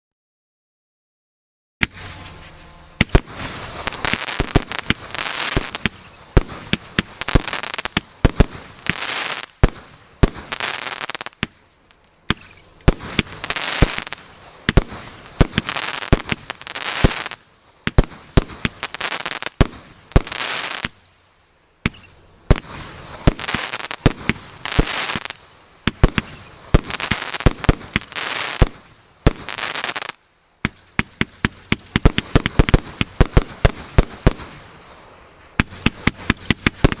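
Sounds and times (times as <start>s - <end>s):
firework shots cracking: 1.8s - 2.4s, 3.0s - 21.0s, 21.8s - 35.0s, 35.6s - 37.0s
firework hiss: 1.8s - 37.0s.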